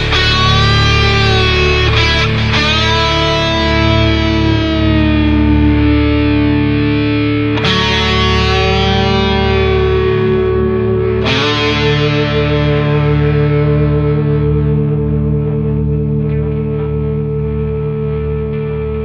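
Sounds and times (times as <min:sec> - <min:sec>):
distorted electric guitar chords: 0:00.0 - 0:19.0
steady low drone: 0:00.0 - 0:19.0.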